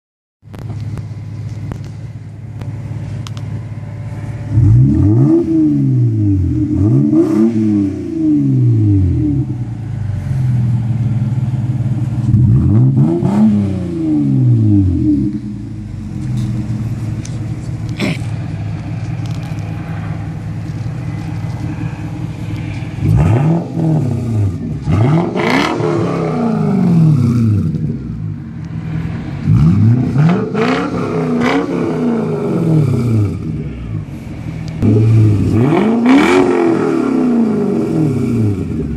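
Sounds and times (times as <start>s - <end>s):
car engine idling and revving: 0.4s - 38.9s.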